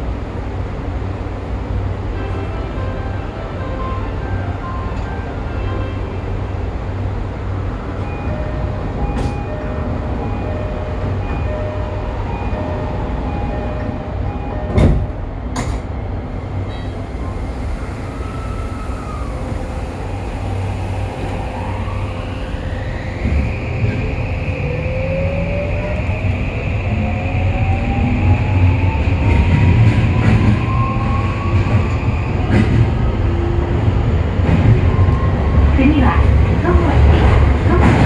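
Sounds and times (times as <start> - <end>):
subway train rumbling: 0.0 - 38.0.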